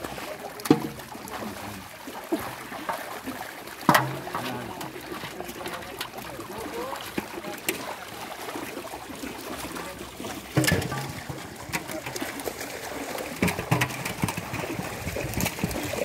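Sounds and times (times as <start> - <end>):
pond water splashing: 0.0 - 16.0.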